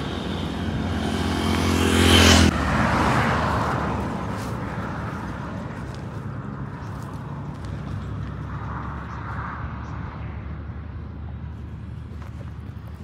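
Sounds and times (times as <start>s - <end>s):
faint roadside traffic: 0.0s - 13.0s
vehicle passing on highway: 0.0s - 13.0s.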